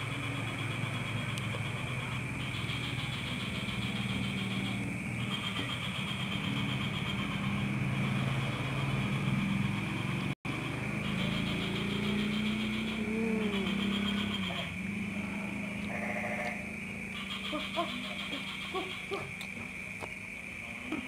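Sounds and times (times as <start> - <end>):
constant high-pitched tone: 0.0 - 21.0
low engine hum: 0.0 - 21.0.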